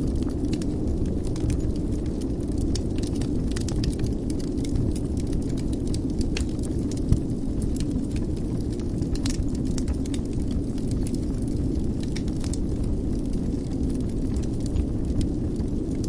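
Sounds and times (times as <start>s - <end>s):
fire crackles and pops: 0.0s - 16.0s
fire flames rumbling: 0.0s - 16.0s.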